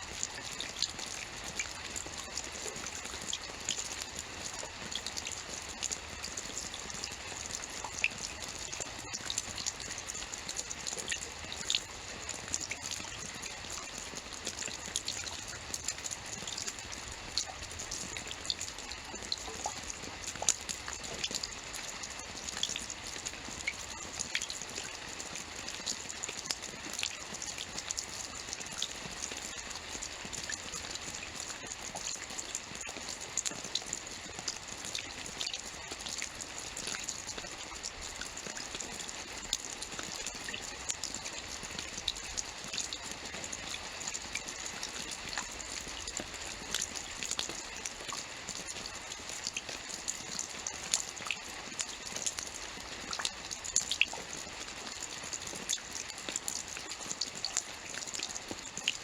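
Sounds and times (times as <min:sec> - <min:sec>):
steady rainfall: 0:00.0 - 0:59.0
raindrop ticks: 0:00.2 - 0:59.0.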